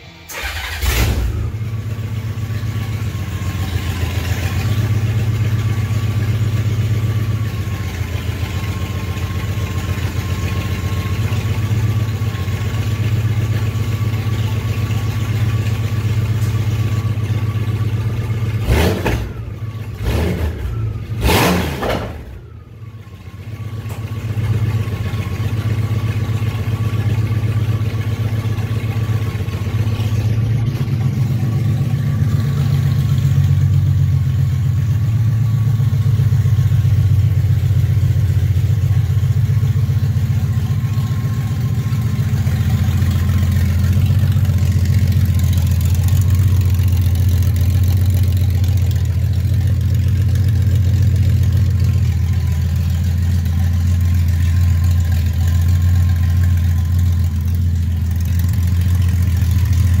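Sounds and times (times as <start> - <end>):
motorcycle engine idling: 0.3 - 60.0.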